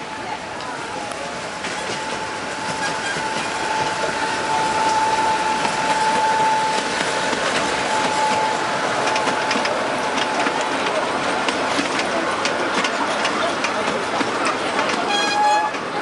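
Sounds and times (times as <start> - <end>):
miniature train running past: 0.0 - 16.0
wheels clicking on rails: 0.5 - 16.0.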